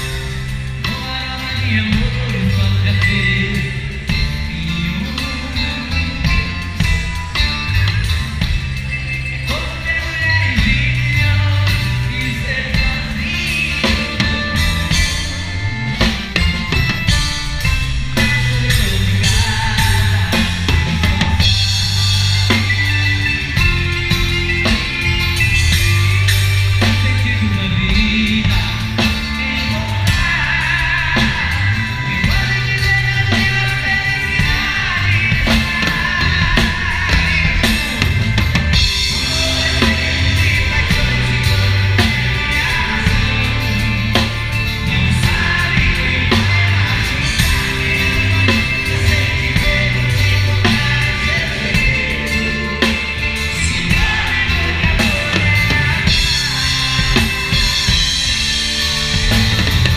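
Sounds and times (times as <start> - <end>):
drum kit: 0.0 - 59.9
live band playing: 0.0 - 59.9
person singing: 9.3 - 59.9.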